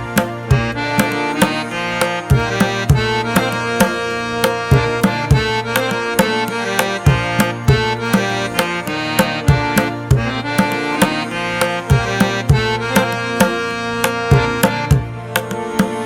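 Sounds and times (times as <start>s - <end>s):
hand drum beat: 0.0s - 16.0s
sustained melodic tones: 0.0s - 16.0s.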